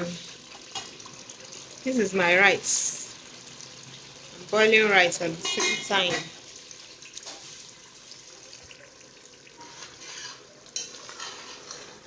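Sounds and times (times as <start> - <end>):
pot of food bubbling and sizzling: 0.0 - 12.0.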